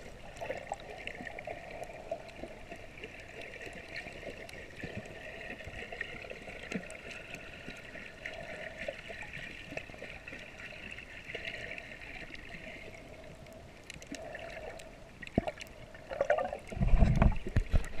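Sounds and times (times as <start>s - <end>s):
low rumble of surging water: 0.0s - 18.0s
muffled underwater water wash: 0.0s - 18.0s.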